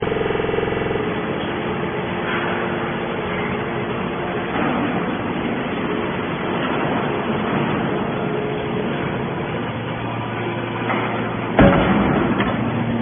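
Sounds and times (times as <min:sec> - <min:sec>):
hydraulic baler rumbling: 0:00.0 - 0:13.0
pitched hum: 0:00.0 - 0:13.0.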